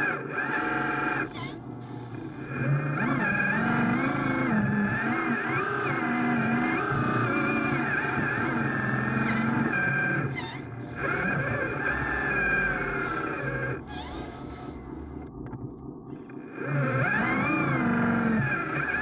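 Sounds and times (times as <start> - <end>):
electric motors whining: 0.0 - 15.4, 16.1 - 19.0.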